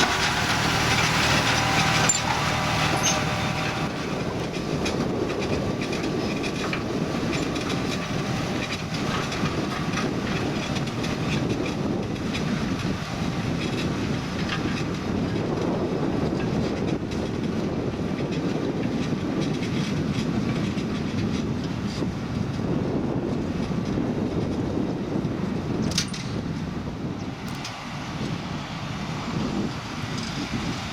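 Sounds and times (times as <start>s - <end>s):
tractor engine drone: 0.0s - 30.9s.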